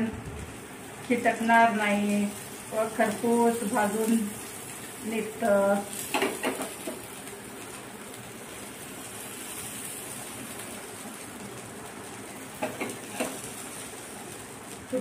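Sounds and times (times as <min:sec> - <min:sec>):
oil sizzling on a hot pan: 0:00.0 - 0:15.0.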